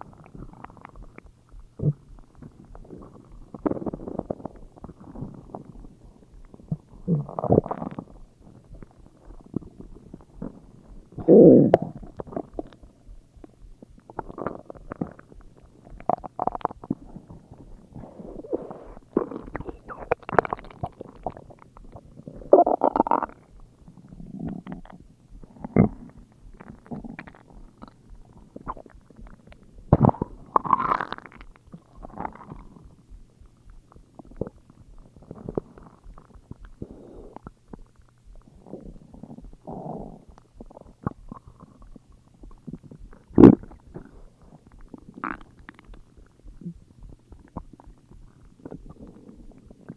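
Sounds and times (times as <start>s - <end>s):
stomach growling and gurgling: 0.0s - 49.9s.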